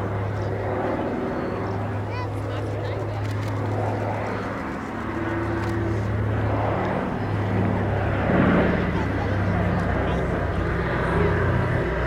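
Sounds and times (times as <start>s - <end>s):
radial aircraft engines droning: 0.0s - 12.0s.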